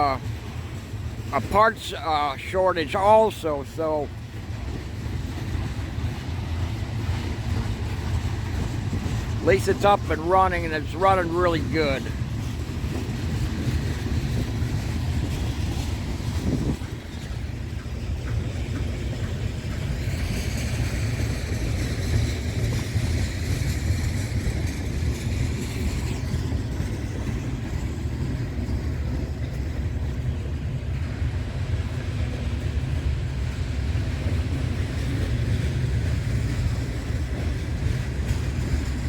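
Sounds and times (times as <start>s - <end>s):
freight train rumbling on rails: 0.0s - 39.0s.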